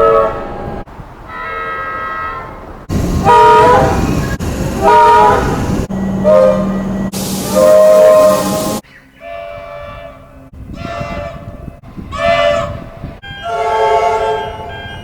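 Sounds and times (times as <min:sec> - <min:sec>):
train horn blasts: 0:00.0 - 0:00.6, 0:01.3 - 0:02.6, 0:03.2 - 0:15.0.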